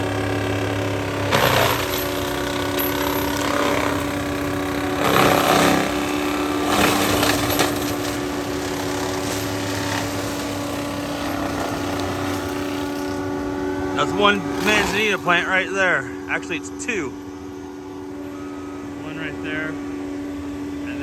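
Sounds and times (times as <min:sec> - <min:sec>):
mulching drum shredding brush: 0:00.0 - 0:17.1
diesel engine running under load: 0:00.0 - 0:21.0.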